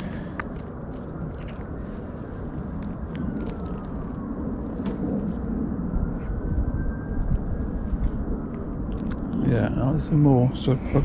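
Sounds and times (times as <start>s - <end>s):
faint engine drone: 0.0s - 11.0s
low outdoor rumble: 0.0s - 11.0s.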